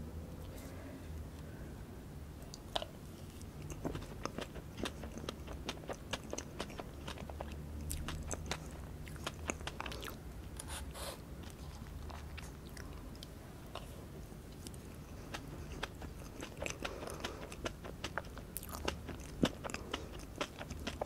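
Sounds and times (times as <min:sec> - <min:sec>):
close chewing with mouth clicks: 0:02.5 - 0:21.0.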